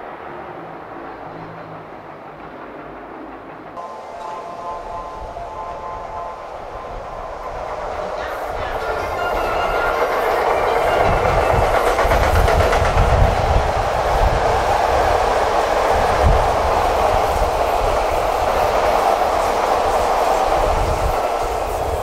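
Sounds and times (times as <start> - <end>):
electric train passing: 0.0 - 22.0.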